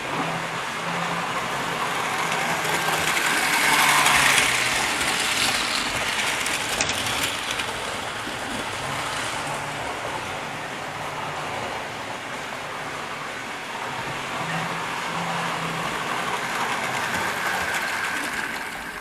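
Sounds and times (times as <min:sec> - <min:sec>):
model train passing: 0:00.0 - 0:19.0.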